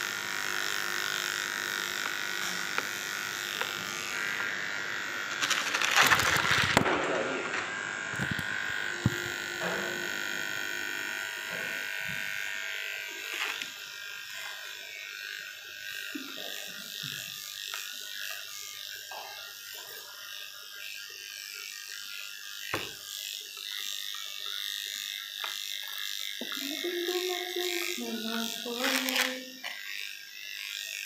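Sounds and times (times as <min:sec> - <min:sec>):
electric clipper buzzing: 0:00.0 - 0:31.0.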